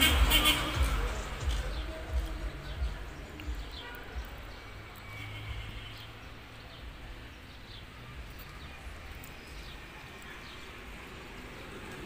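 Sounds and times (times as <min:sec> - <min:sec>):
low street ambience rumble: 0:00.0 - 0:12.0.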